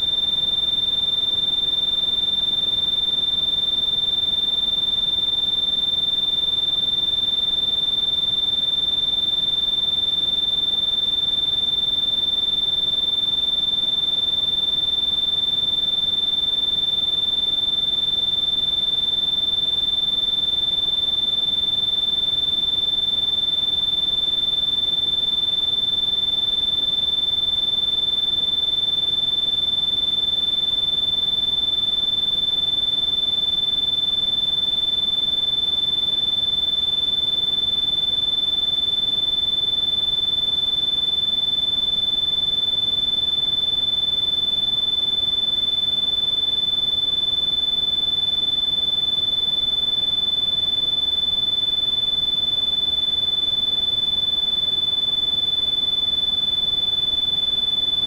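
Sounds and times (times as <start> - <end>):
high-pitched steady beep: 0.0 - 58.0.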